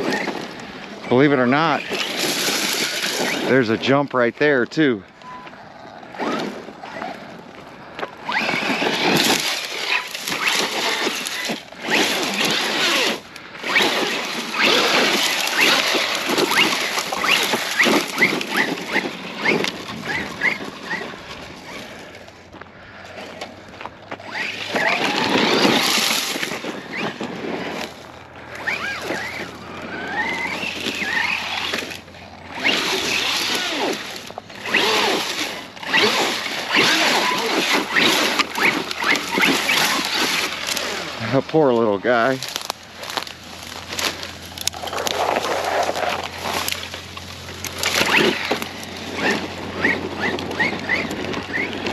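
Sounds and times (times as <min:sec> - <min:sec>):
rc truck motor whine: 0:00.0 - 0:51.9
tyres crackling on dirt: 0:00.0 - 0:51.9.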